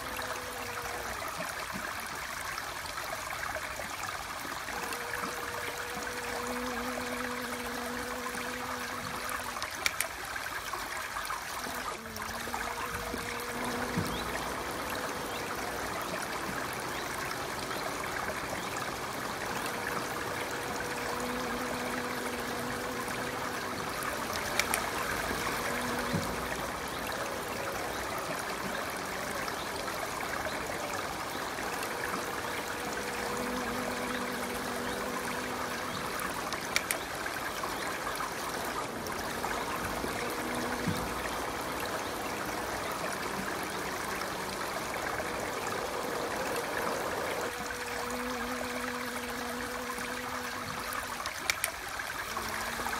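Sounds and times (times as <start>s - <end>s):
faint hum: 0.0s - 52.9s
stream trickling: 0.0s - 52.9s.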